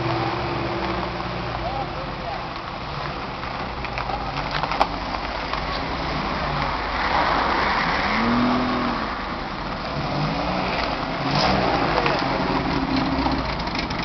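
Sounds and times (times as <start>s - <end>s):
car engines at low revs: 0.0s - 14.0s.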